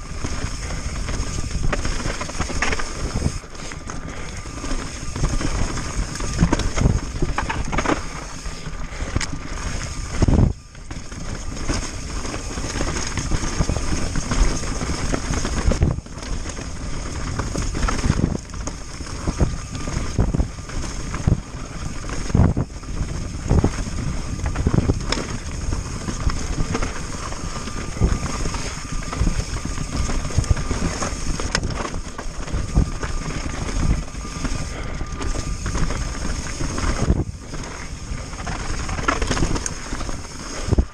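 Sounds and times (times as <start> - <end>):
bike rattling: 0.0 - 40.9
wind rushing over microphone: 0.0 - 40.9
tyres crunching over loose rock: 0.1 - 40.9.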